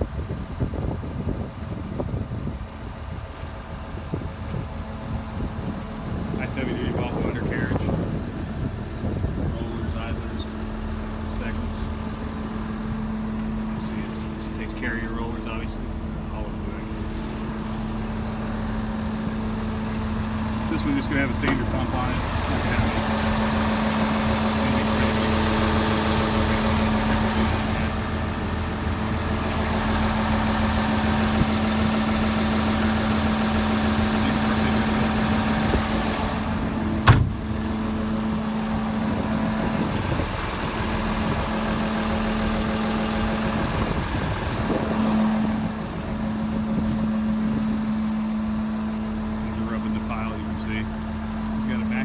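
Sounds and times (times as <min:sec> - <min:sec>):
excavator diesel engine idling: 0:00.0 - 0:52.0.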